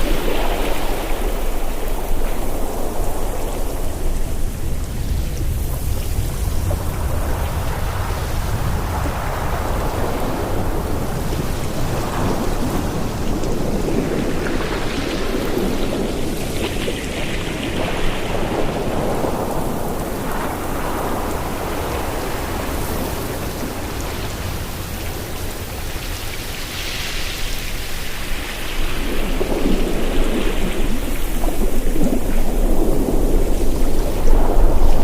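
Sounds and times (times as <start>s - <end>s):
ocean surf washing in: 0.0s - 35.0s
wind blowing across microphone: 0.0s - 35.0s.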